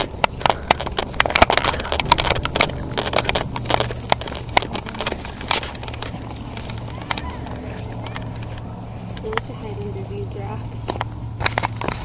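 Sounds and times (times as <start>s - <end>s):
footsteps crunching through dry leaves: 0.0s - 12.0s.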